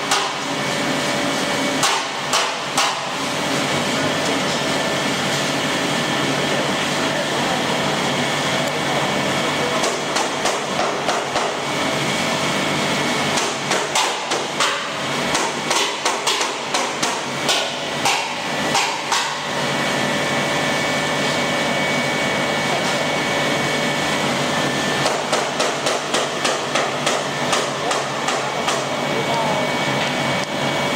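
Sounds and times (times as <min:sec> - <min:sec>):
pellet machine humming: 0:00.0 - 0:30.9.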